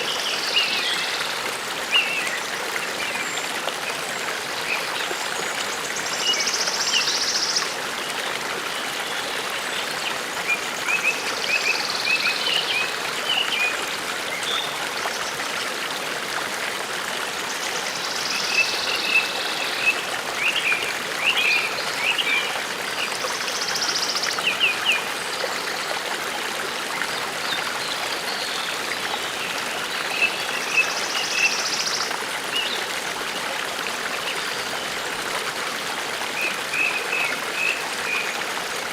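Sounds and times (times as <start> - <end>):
brook babbling: 0.0 - 38.9.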